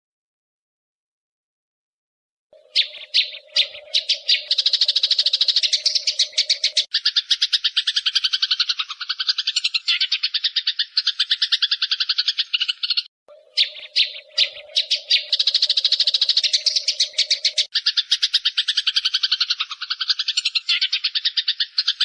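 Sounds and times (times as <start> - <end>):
lower chattering bird voice: 2.6 - 22.0
sparrows chattering: 2.6 - 22.0.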